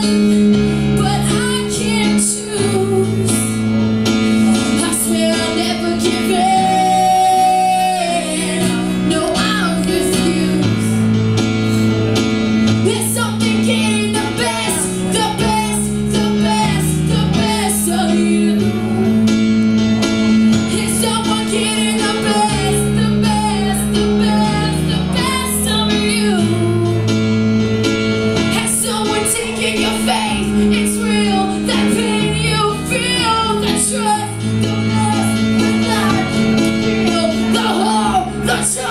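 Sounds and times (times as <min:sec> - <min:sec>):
woman singing: 0:00.0 - 0:03.6, 0:04.4 - 0:11.0, 0:12.8 - 0:19.3, 0:20.6 - 0:27.1, 0:28.5 - 0:38.9
guitar: 0:00.0 - 0:38.9
sustained bass line: 0:00.0 - 0:38.9.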